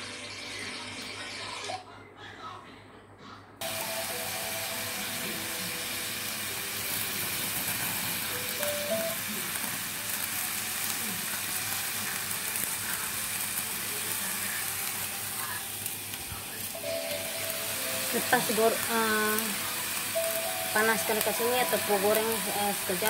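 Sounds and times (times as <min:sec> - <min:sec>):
meat sizzling in a frying pan: 0:03.6 - 0:23.0.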